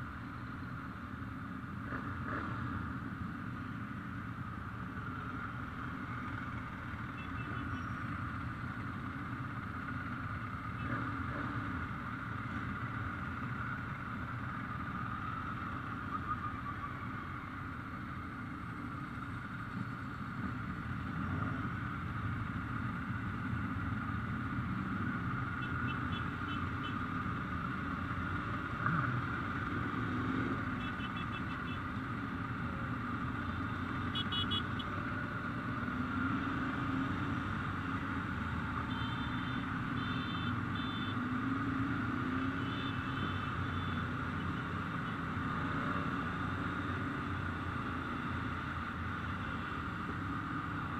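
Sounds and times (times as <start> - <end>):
motorcycle engines running: 0.0 - 50.9.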